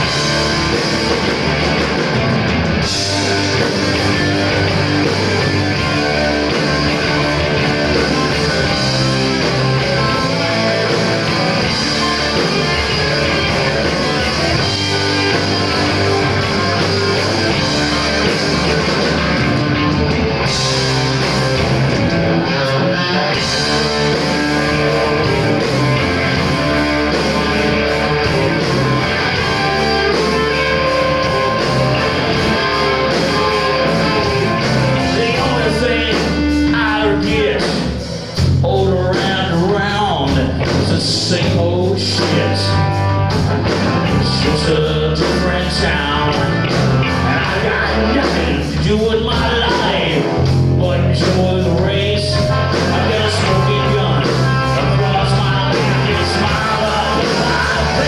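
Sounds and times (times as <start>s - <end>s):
bass guitar: 0.0s - 58.0s
distorted electric guitars: 0.0s - 58.0s
live hard rock band: 0.0s - 58.0s.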